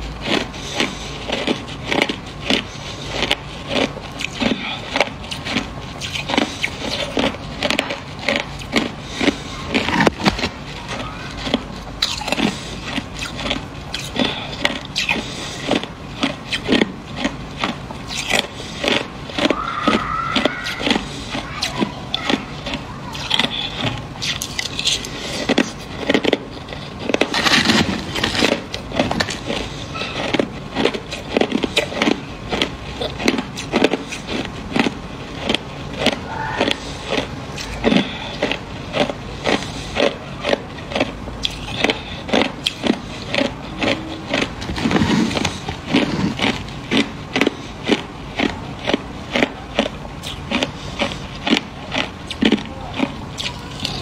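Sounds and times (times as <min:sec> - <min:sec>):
crushed ice being chewed: 0:00.0 - 0:54.0.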